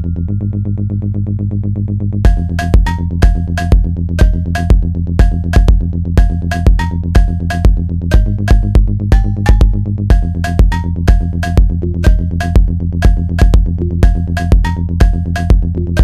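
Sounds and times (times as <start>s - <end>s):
pulsing synth bass: 0.0s - 16.0s
drum-machine beat: 2.3s - 16.0s.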